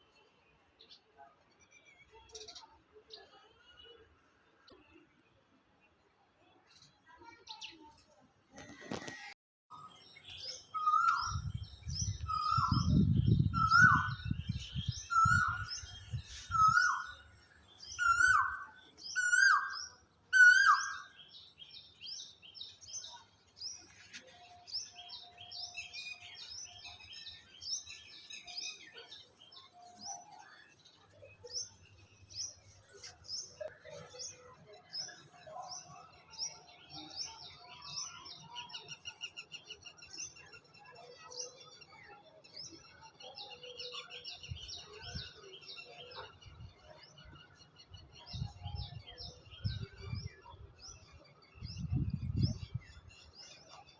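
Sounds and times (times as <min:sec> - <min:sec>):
birds chirping and trilling: 0:08.6 - 0:53.9.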